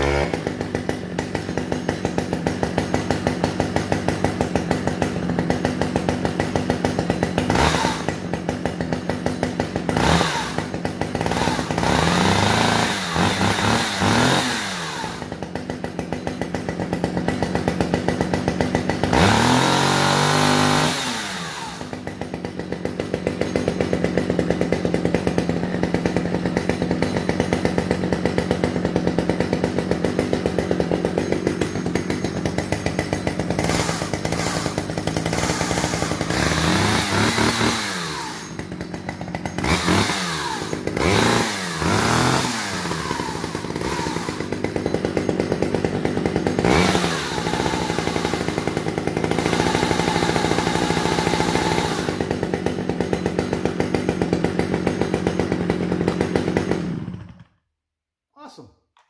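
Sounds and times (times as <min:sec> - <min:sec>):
chainsaw engine revving and idling: 0:00.0 - 0:57.6.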